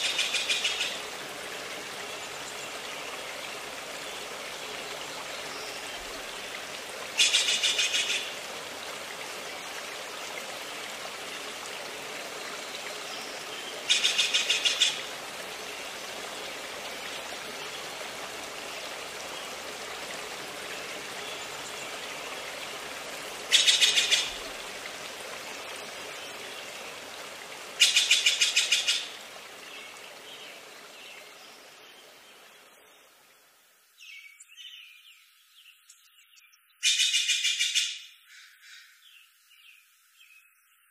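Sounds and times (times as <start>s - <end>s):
running water: 0.0s - 34.8s.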